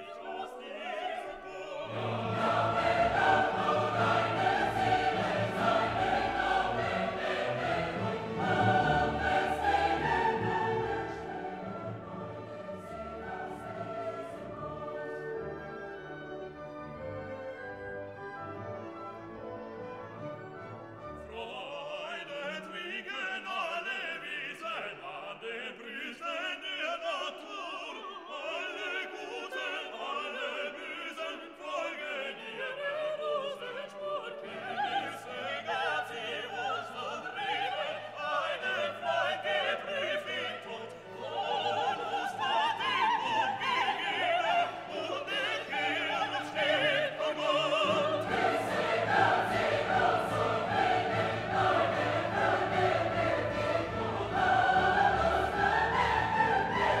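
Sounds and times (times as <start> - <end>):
singing voice with orchestra: 0.0 - 57.0.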